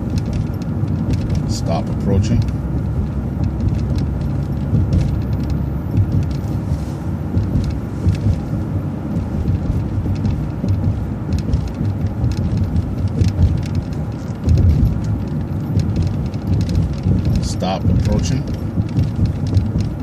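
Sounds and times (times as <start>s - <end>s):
bus engine and road rumble: 0.0s - 20.0s
light rattles and clicks: 0.0s - 20.0s.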